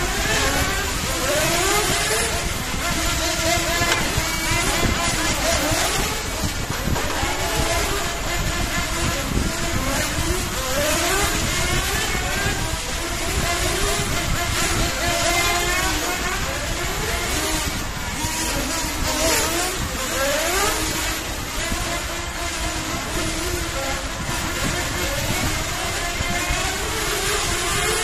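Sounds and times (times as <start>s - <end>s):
electric motors whining: 0.0s - 28.0s.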